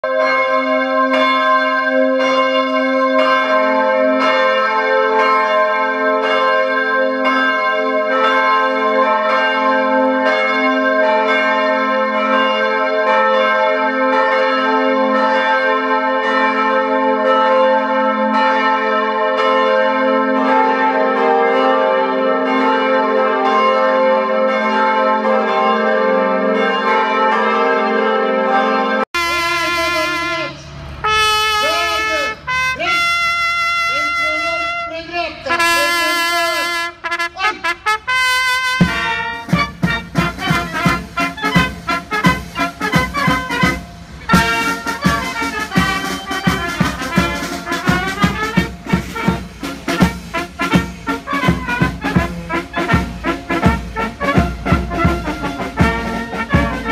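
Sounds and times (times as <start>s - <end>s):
church bells ringing: 0.0s - 37.2s, 38.0s - 56.9s.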